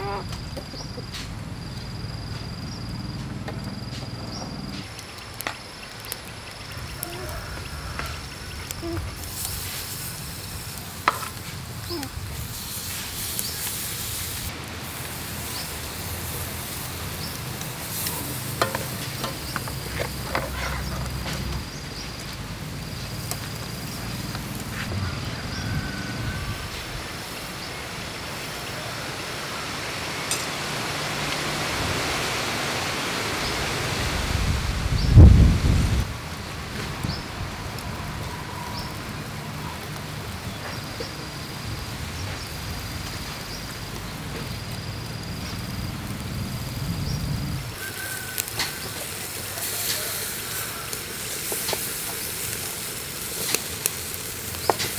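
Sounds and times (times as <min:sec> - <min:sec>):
ribs sizzling on grill: 0:00.0 - 0:54.9.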